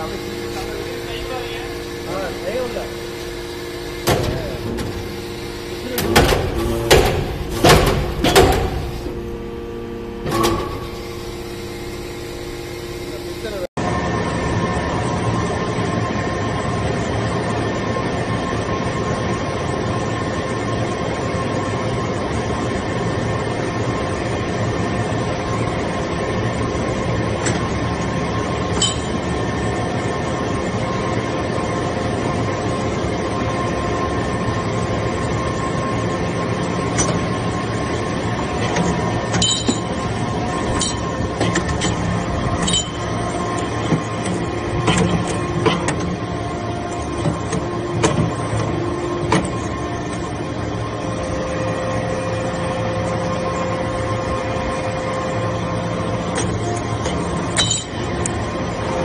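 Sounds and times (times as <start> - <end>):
hydraulic pump humming: 0.0 - 15.2, 24.4 - 59.0.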